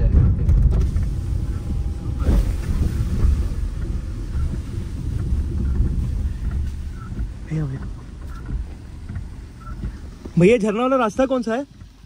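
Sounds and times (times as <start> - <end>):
tyres and engine rumbling: 0.0 - 12.0.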